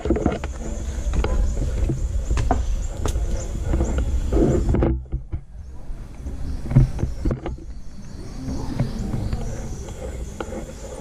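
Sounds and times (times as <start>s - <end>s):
microphone handling rumble: 0.0s - 11.0s.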